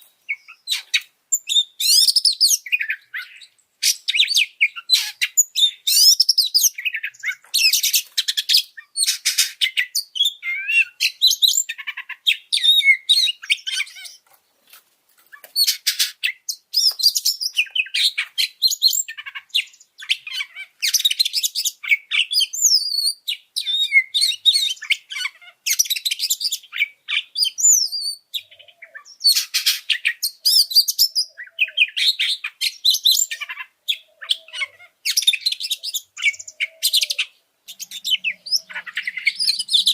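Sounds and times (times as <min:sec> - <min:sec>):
magpie-robin singing: 0:00.0 - 0:14.3, 0:15.3 - 0:39.9.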